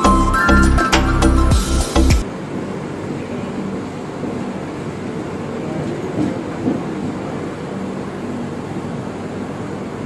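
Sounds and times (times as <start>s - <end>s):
train coach rumbling: 0.0s - 10.0s.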